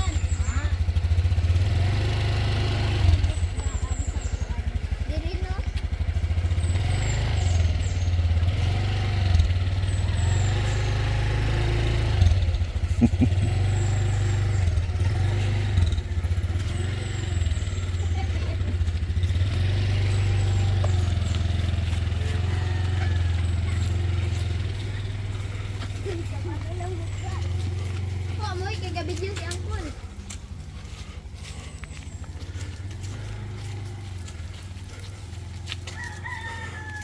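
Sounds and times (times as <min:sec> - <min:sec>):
small motorbike engine revving: 0:00.0 - 0:37.0.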